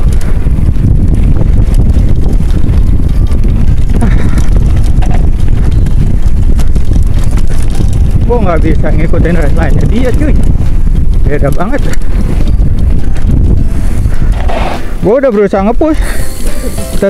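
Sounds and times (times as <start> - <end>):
bike rattling over bumps: 0.0 - 17.0
tyres on dirt: 0.0 - 17.0
wind buffeting microphone: 0.0 - 17.0.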